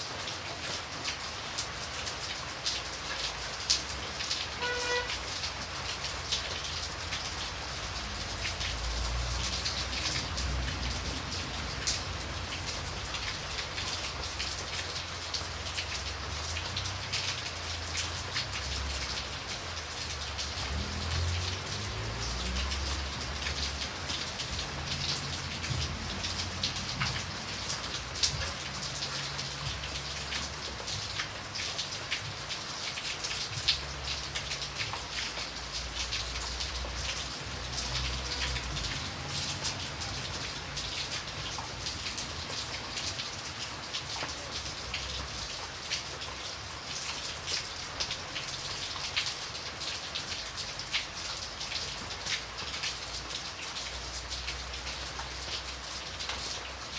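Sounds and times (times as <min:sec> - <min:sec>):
light rain pattering: 0:00.0 - 0:56.9.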